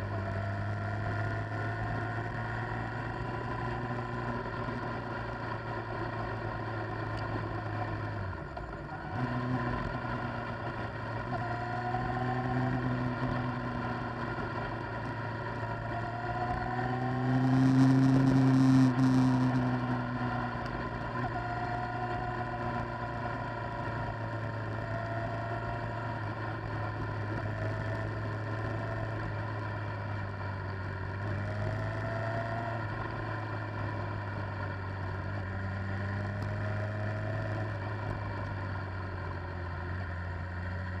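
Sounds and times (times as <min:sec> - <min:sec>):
motorcycle engine running: 0:00.0 - 0:41.0
wind and road noise: 0:00.0 - 0:41.0.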